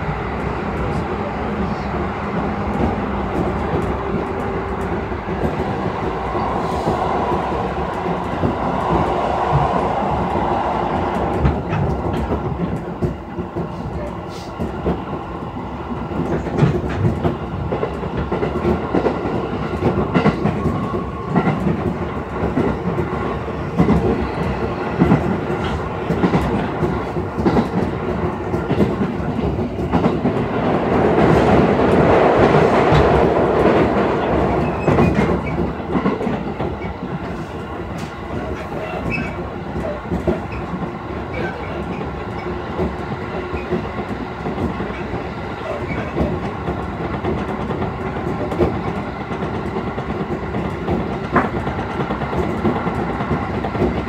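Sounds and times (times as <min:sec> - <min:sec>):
rail joints clickety-clack: 0:00.0 - 0:54.0
train wheels rumbling on rails: 0:00.0 - 0:54.0.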